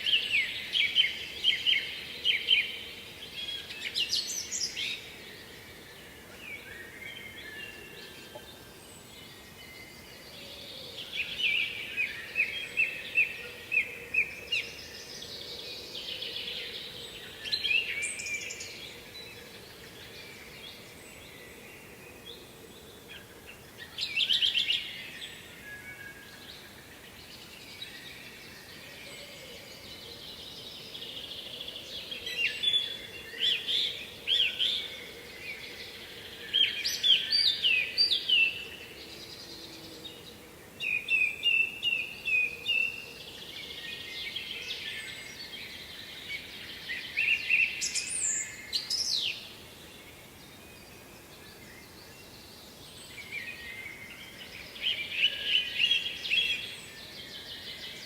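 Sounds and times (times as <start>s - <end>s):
faint steady background noise: 0.0s - 58.0s
songbirds singing: 0.0s - 58.0s.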